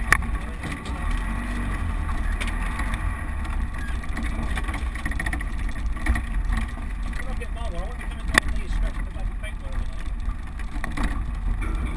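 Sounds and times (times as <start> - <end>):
engine and drivetrain rumble: 0.0 - 11.9
knocks and rattles over bumps: 0.0 - 11.9.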